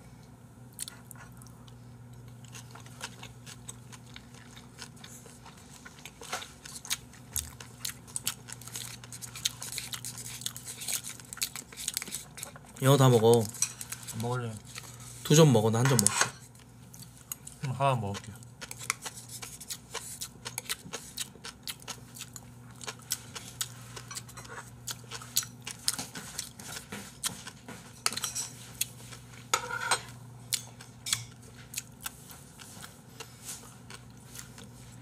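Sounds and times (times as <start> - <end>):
chewing: 0.7 - 15.2, 16.0 - 35.0.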